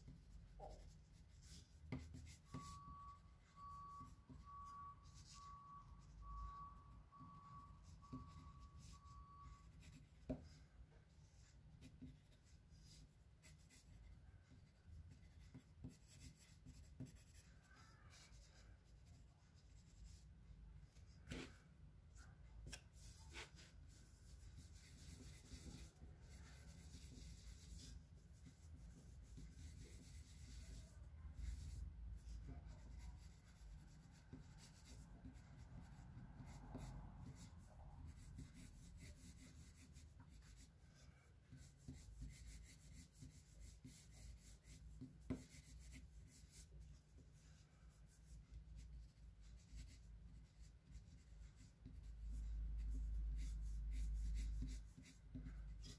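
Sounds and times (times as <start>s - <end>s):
pencil scratching on paper: 0.0s - 55.9s.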